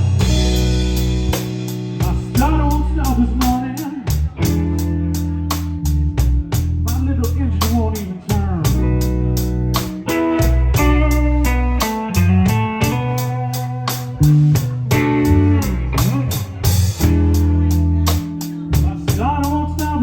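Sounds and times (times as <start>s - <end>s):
bass guitar: 0.0s - 20.0s
drum beat with cymbals: 0.0s - 20.0s
electric guitar lead: 0.0s - 20.0s.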